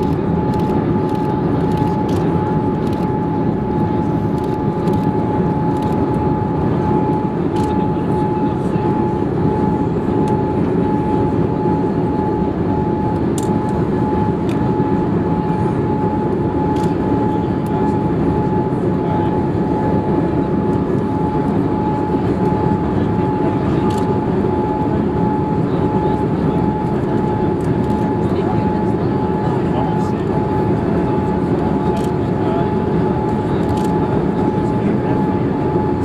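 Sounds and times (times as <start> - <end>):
airflow and engine rush: 0.0 - 36.0
thin steady whine: 0.0 - 36.0.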